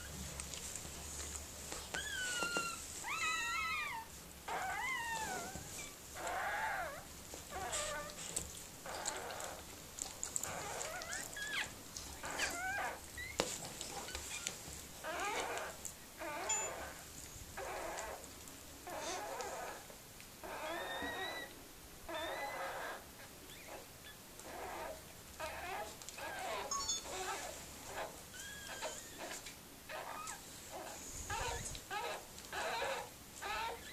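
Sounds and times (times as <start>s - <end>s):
newborn puppies crying: 1.9s - 9.7s, 10.3s - 13.4s, 14.0s - 17.0s, 17.6s - 33.9s.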